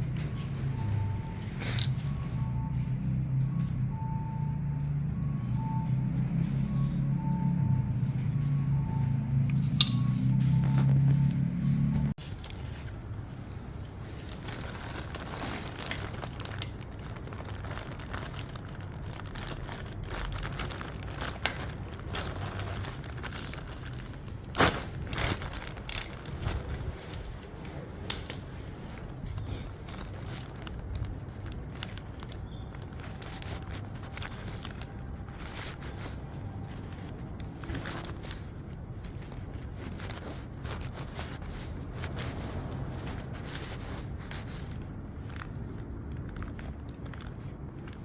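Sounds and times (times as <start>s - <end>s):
crinkling handling noise: 0.0s - 3.7s, 12.2s - 48.0s.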